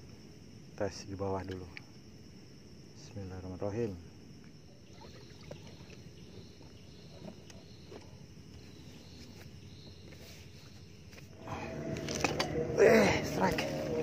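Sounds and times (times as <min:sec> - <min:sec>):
insect chirring: 0:00.0 - 0:14.0
low steady background noise: 0:00.0 - 0:14.0.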